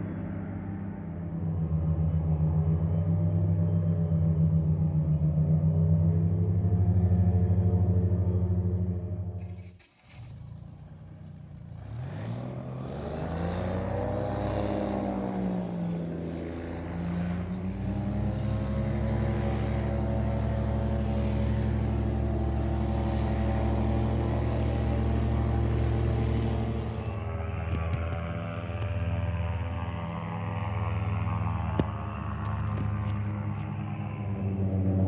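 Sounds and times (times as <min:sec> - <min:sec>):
airboat engine and propeller: 0:00.0 - 0:35.0.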